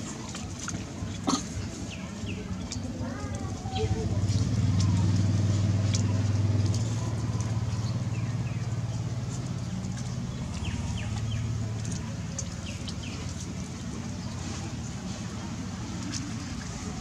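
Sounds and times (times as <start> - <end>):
motor vehicle engine hum: 0.0 - 17.0.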